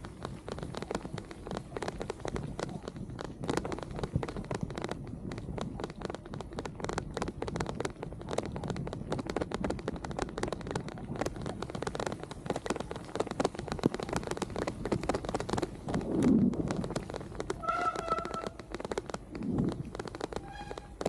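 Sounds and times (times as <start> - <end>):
raindrops pattering on microphone: 0.0 - 21.0
steady low rumble: 0.0 - 21.0.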